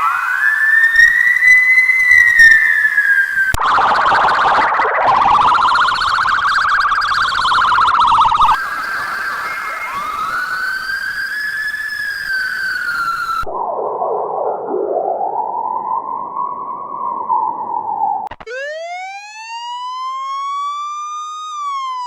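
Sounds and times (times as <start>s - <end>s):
siren with fast warble: 0.0s - 13.8s, 17.9s - 22.0s
siren smooth wail: 0.0s - 22.0s.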